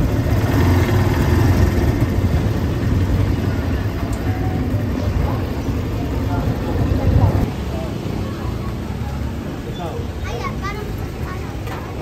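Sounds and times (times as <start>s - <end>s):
motorcycle engine rumble: 0.0s - 12.0s
road traffic: 0.0s - 12.0s.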